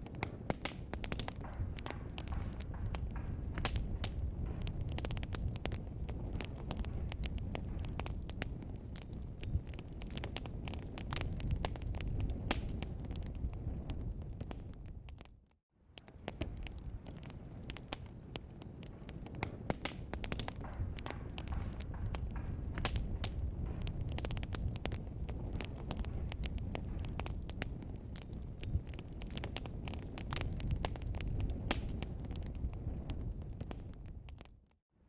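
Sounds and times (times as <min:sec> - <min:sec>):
low rumble of flames: 0:00.0 - 0:34.8
wood fire crackling and popping: 0:00.0 - 0:34.8.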